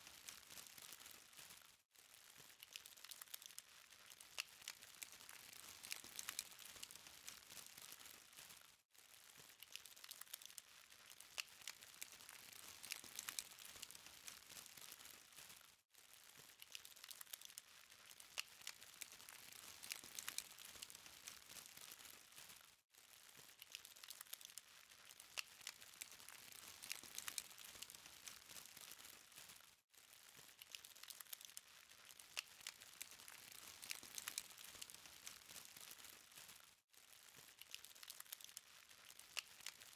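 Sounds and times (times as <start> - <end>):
charcoal fire crackling: 0.0 - 15.6, 16.2 - 22.6, 23.2 - 39.9.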